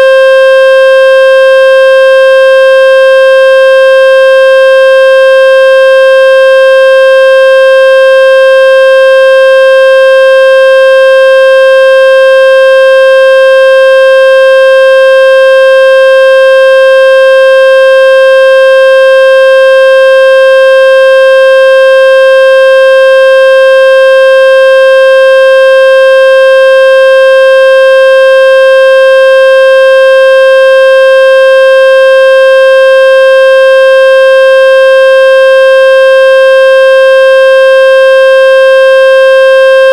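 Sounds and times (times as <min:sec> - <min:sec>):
buzzy electronic test tone: 0:00.0 - 0:39.9.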